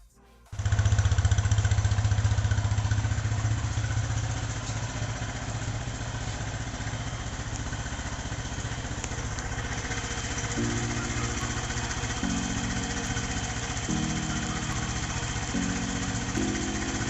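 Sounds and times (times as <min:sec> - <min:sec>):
motorcycle engine starting and idling: 0:00.5 - 0:17.0.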